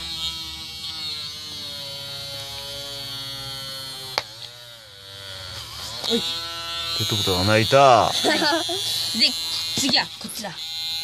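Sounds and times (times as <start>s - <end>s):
rotary tool motor buzzing: 0.0s - 11.0s.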